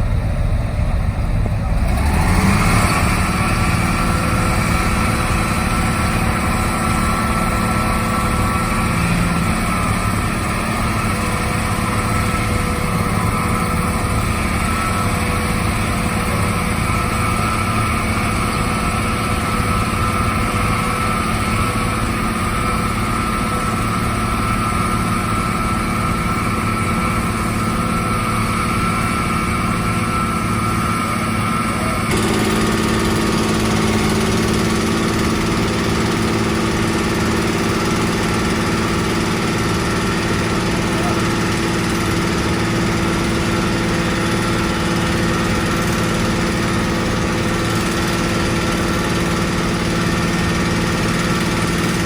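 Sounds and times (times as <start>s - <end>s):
construction machine engine running: 0.0s - 52.0s.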